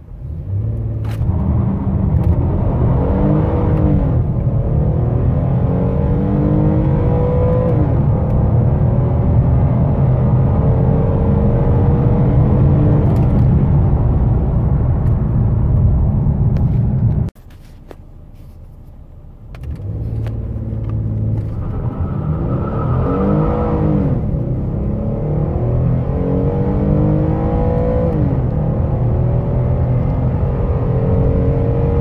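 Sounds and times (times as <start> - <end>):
car engine accelerating: 0.2 - 17.3, 19.6 - 32.0.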